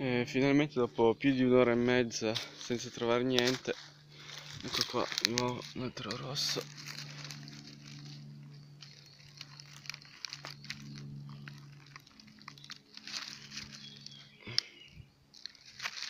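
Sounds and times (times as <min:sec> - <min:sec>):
low steady hum: 0:00.0 - 0:16.0
dry leaves and grass rustling: 0:01.2 - 0:16.0.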